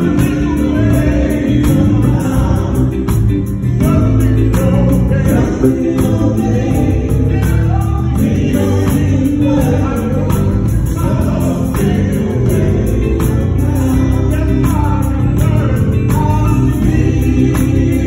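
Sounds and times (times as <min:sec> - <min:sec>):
bass-heavy instrumental backing: 0:00.0 - 0:18.0
group singing gospel: 0:00.0 - 0:18.0.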